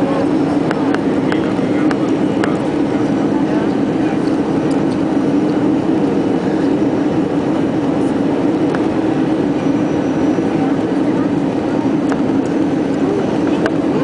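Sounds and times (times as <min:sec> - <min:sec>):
airliner cabin engine roar: 0:00.0 - 0:14.0
constant low hum: 0:00.0 - 0:14.0.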